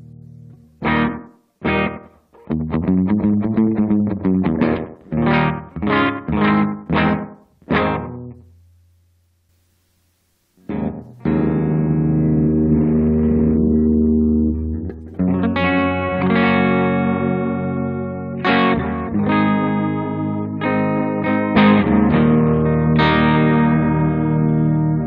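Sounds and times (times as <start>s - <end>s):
electric guitar chords with fuzz: 0.0s - 8.8s, 10.6s - 25.0s.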